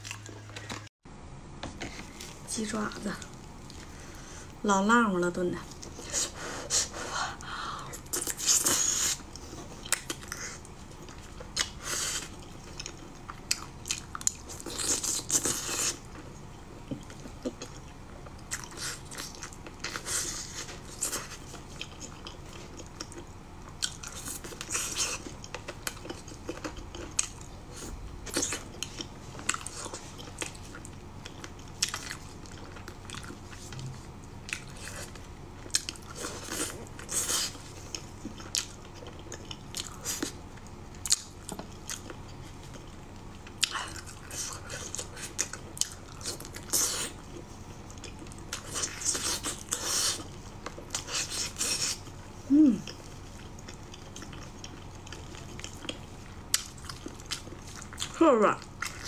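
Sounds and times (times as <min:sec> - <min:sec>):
wet chewing and crunching: 0:07.4 - 0:59.0.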